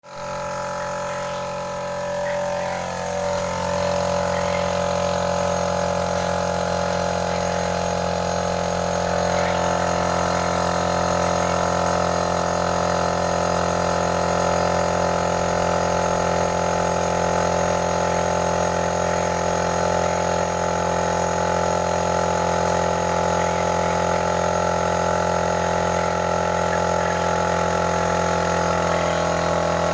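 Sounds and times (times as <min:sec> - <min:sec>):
machine engine running: 0:00.0 - 0:29.9.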